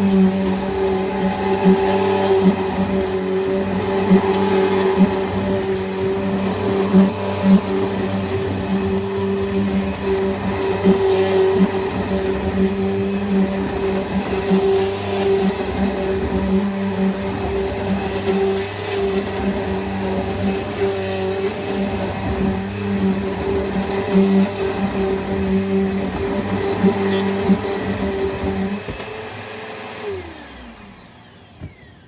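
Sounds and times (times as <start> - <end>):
vacuum cleaner humming: 0.0 - 32.0.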